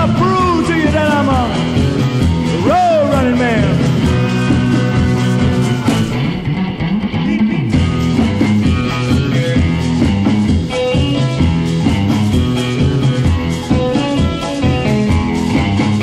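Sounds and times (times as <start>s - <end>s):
instrumental rock music: 0.0s - 16.0s.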